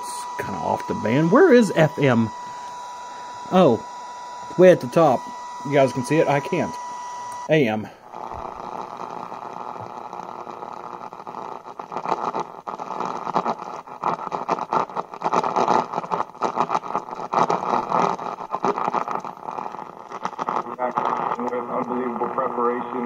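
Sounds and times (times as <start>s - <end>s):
radio static crackling: 0.0s - 23.0s.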